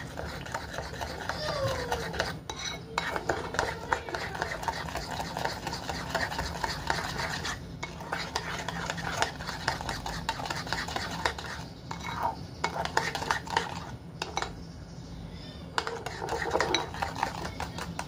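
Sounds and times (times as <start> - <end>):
spoon scraping a bowl: 0.0 - 14.6, 15.7 - 18.0.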